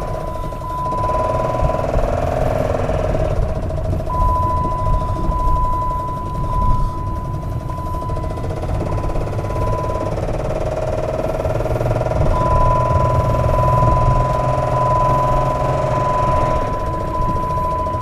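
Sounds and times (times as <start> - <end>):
car engine running: 0.0 - 18.0
steady high tone: 0.0 - 18.0.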